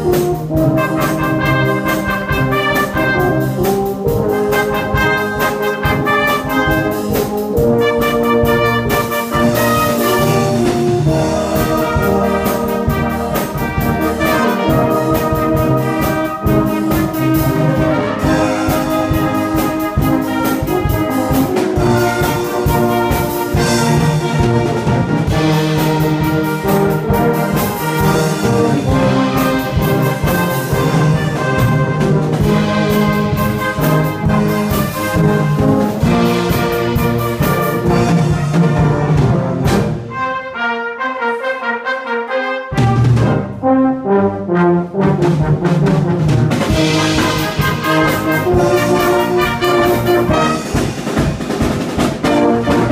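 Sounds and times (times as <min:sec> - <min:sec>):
drum kit steady beat: 0:00.0 - 0:40.0, 0:45.2 - 0:52.9
brass band playing: 0:00.0 - 0:52.9.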